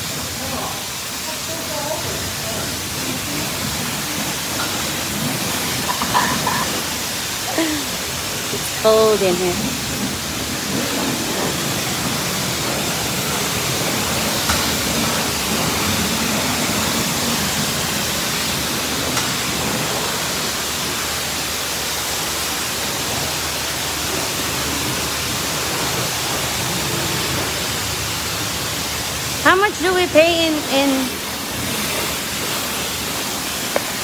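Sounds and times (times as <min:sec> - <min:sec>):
pressure washer spray hissing: 0:00.0 - 0:34.0
water spray hitting car: 0:00.0 - 0:34.0.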